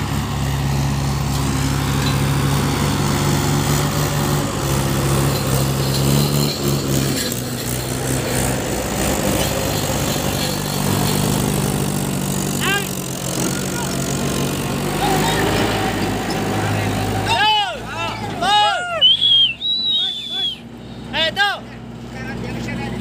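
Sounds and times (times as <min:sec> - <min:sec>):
tractor diesel engines running: 0:00.0 - 0:23.0.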